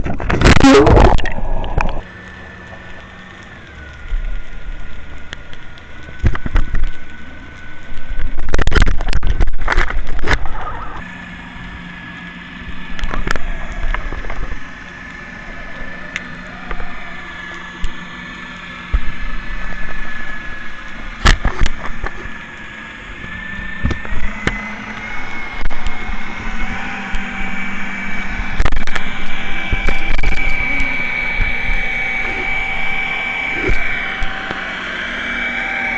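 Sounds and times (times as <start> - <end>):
low hum: 0.0 - 35.9
underwater boat engine whine: 0.0 - 35.9.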